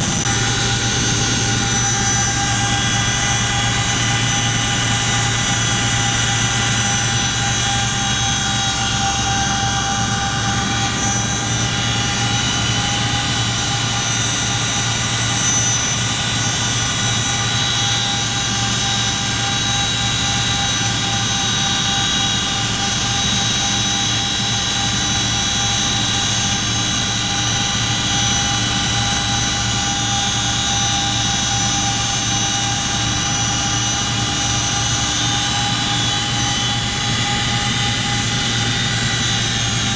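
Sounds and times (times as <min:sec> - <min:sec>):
helicopter cabin engine drone: 0:00.0 - 0:39.9
high steady whines: 0:00.0 - 0:39.9.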